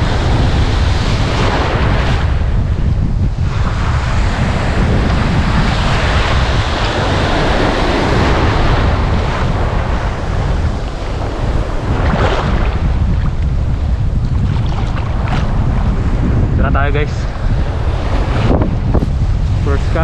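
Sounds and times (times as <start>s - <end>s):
sea waves breaking on shore: 0.0s - 20.0s
wind buffeting microphone: 0.0s - 20.0s.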